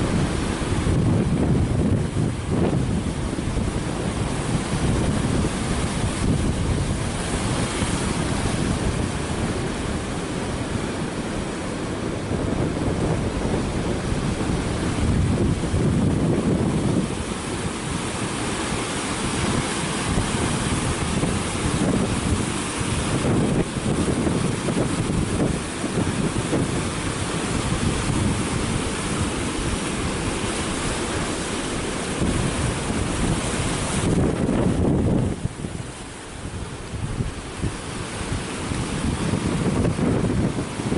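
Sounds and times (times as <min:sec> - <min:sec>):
surf breaking over rocks: 0:00.0 - 0:40.9
wind buffeting microphone: 0:00.0 - 0:40.9.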